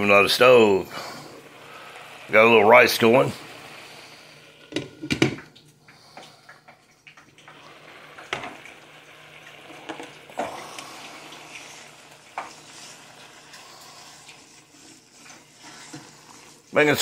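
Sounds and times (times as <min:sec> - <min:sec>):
rice sizzling and bubbling: 0:00.0 - 0:17.0
stirring in pan: 0:00.0 - 0:17.0.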